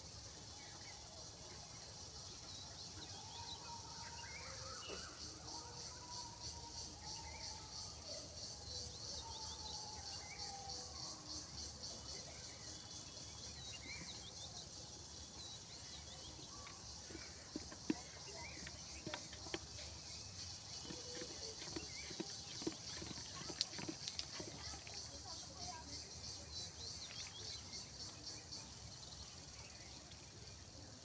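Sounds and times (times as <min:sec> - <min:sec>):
insect chorus trilling: 0:00.0 - 0:31.0.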